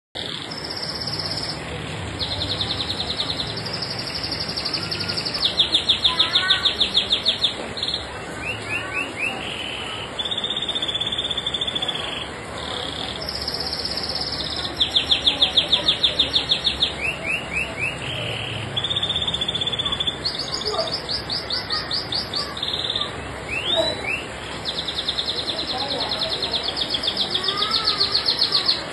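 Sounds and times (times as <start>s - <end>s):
canary singing: 0.2s - 28.9s.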